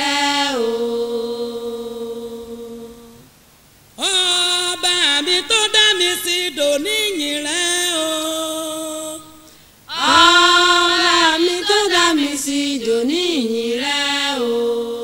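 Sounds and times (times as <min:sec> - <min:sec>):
women singing unaccompanied: 0:00.0 - 0:03.3, 0:04.0 - 0:15.0.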